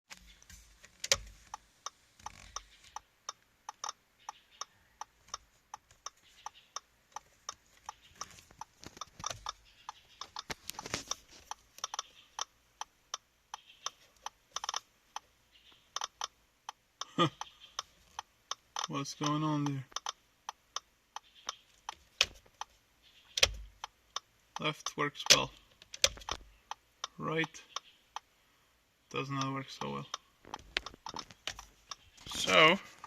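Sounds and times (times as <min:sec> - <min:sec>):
turn signal ticking: 0:00.5 - 0:28.4, 0:29.1 - 0:33.0.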